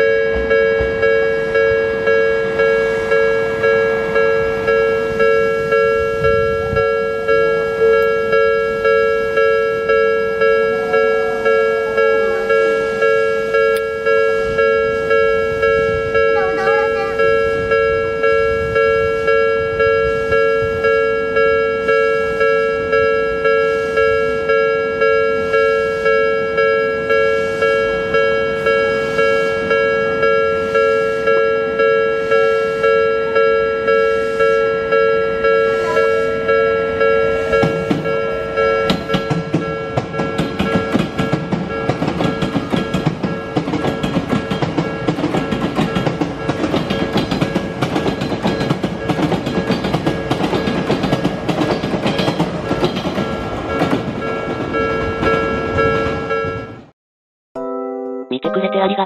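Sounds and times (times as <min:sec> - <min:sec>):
level crossing alarm bell: 0:00.0 - 0:56.9.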